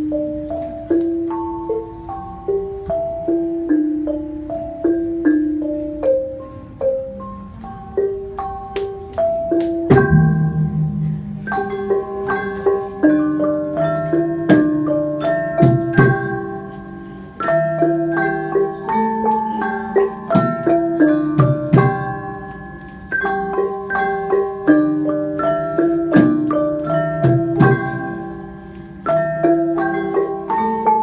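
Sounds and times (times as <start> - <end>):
metallophones struck with mallets: 0.0 - 31.0.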